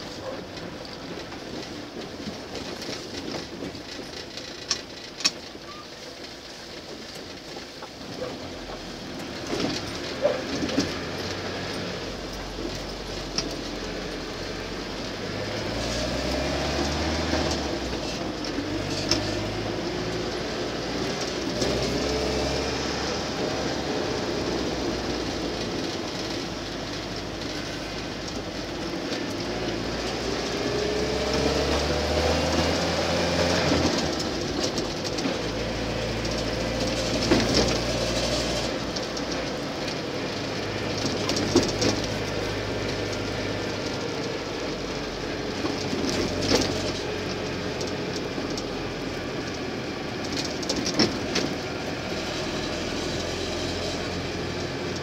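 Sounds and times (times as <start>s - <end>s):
engine accelerating through gears: 0.0s - 55.0s.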